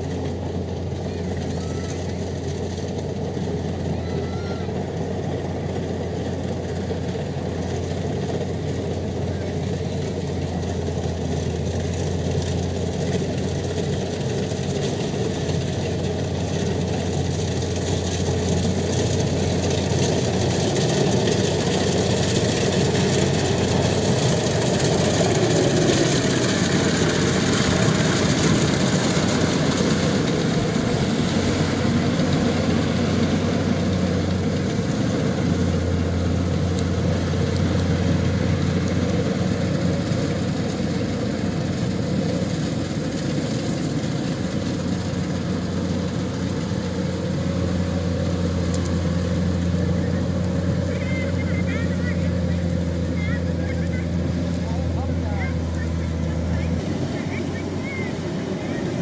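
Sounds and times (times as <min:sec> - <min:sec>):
diesel engine hum: 0:00.0 - 0:59.0.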